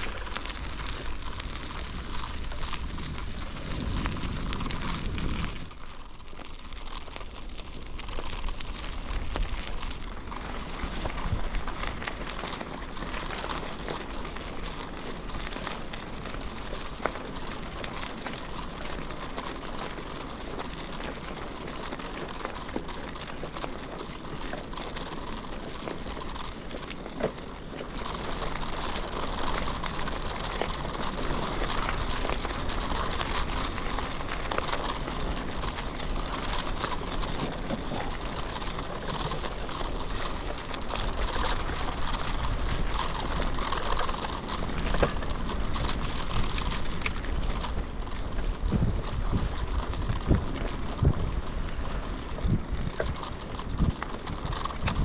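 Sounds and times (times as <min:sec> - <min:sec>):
bicycle tyres crackling on ground: 0:00.0 - 0:55.0.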